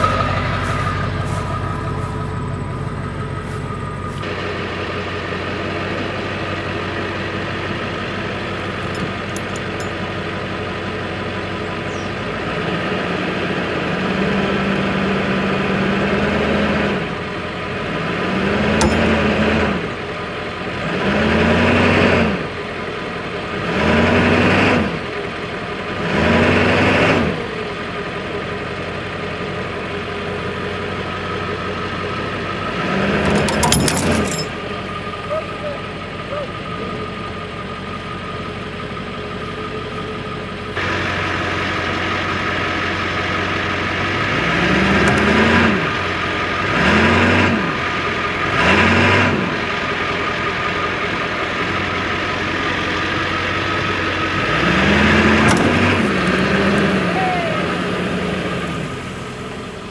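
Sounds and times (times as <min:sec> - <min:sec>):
pickup truck engine revving: 0:00.0 - 0:22.7, 0:23.3 - 0:28.0, 0:29.0 - 0:34.4, 0:40.6 - 0:59.9.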